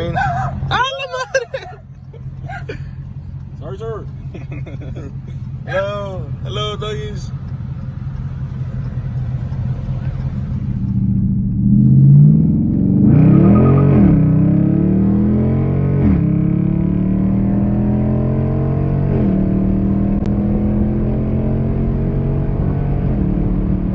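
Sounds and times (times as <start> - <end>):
car accelerating through gears: 0.0 - 23.9
loud car exhaust revving: 0.0 - 23.9.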